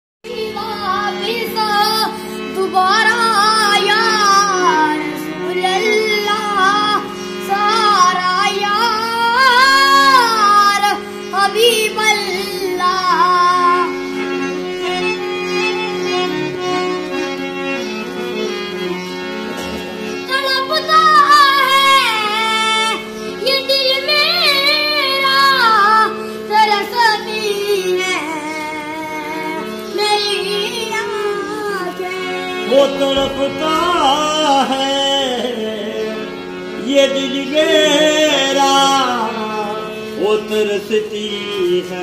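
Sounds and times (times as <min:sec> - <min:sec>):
high voice singing devotional song: 0:00.3 - 0:14.6, 0:20.2 - 0:42.0.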